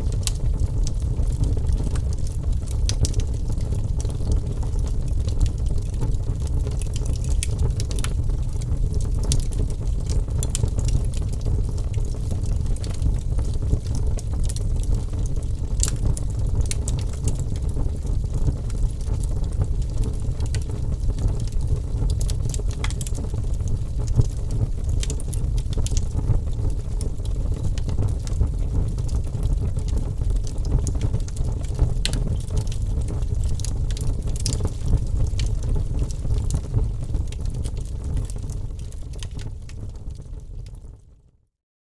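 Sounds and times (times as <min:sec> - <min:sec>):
wood fire crackling: 0:00.0 - 0:41.1.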